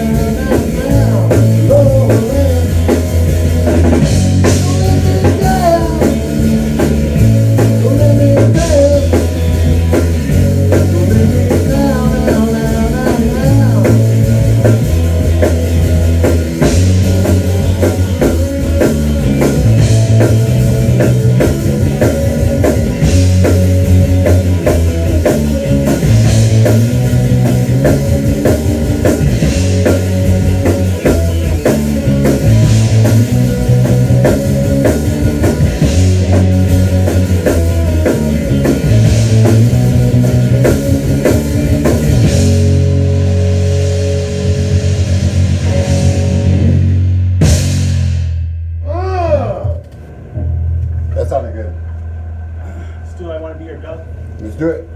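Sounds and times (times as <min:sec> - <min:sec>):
low bass riff: 0:00.0 - 0:54.9
rock band playing: 0:00.0 - 0:54.9
wavering guitar line: 0:00.0 - 0:54.9.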